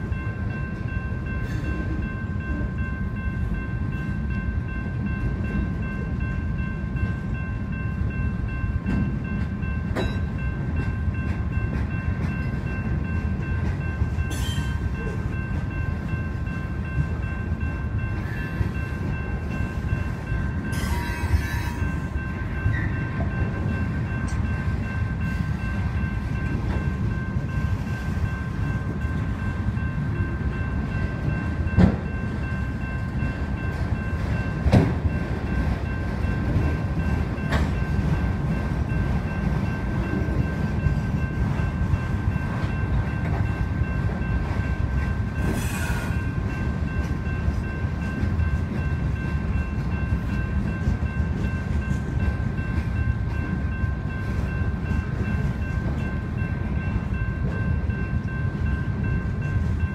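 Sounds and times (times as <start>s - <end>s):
crossing warning bells ringing: 0.0s - 59.9s
freight train rumbling: 0.0s - 59.9s.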